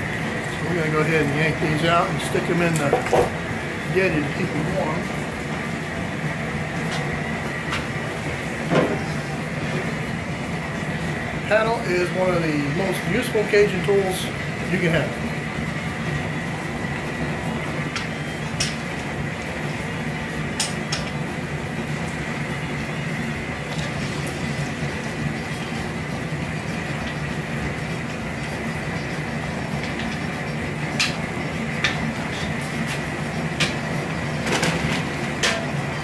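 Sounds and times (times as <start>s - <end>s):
pot boiling hard: 0.0s - 36.0s.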